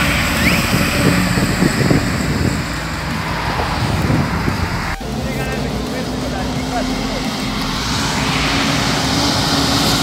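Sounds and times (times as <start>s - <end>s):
diesel truck engine passing: 0.0s - 10.0s
tyre and road noise: 0.0s - 10.0s.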